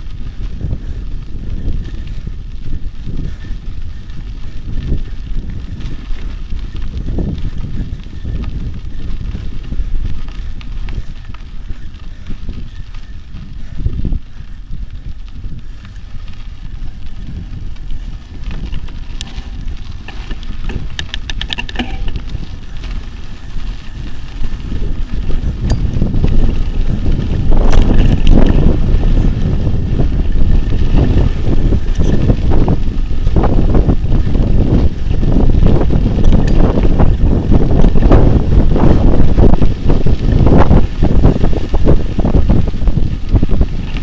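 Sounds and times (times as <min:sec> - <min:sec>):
bike rattling over bumps: 0:00.0 - 0:44.0
bike tyres on dirt track: 0:00.0 - 0:44.0
wind buffeting microphone: 0:00.0 - 0:44.0.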